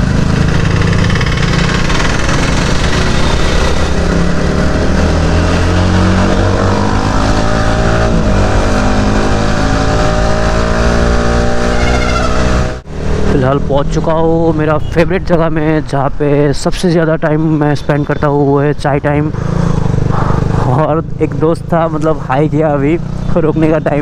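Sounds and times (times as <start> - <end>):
motorcycle engine accelerating: 0.0 - 14.6, 19.0 - 24.0.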